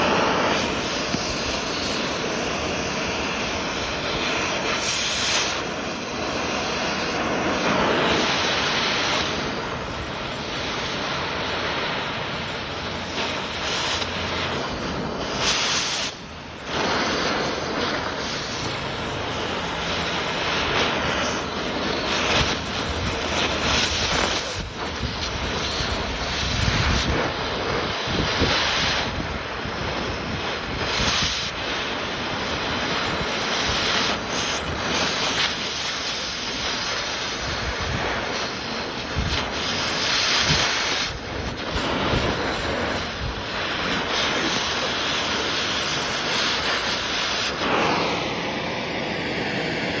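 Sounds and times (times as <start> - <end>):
cutting torch hissing: 0.0 - 50.0.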